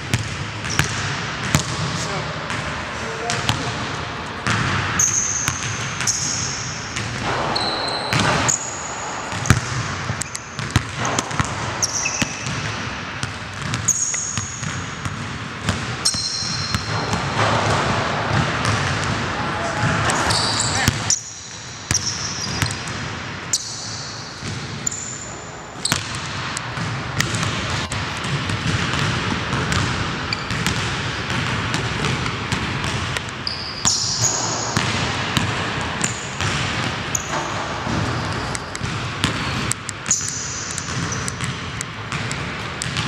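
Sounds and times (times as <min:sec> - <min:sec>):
basketball bouncing on wooden floor: 0:00.0 - 0:01.9, 0:03.3 - 0:21.2, 0:21.9 - 0:23.8, 0:25.8 - 0:43.0
sneaker squeaks: 0:00.6 - 0:02.1, 0:03.0 - 0:12.9, 0:13.6 - 0:15.2, 0:16.0 - 0:17.8, 0:18.6 - 0:26.2, 0:27.2 - 0:32.4, 0:33.2 - 0:34.9, 0:36.0 - 0:41.6.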